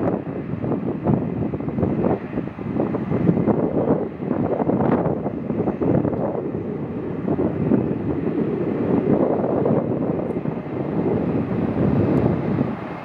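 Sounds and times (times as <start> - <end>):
jet engines rumbling: 0.0 - 13.0
wind buffeting microphone: 0.0 - 13.0.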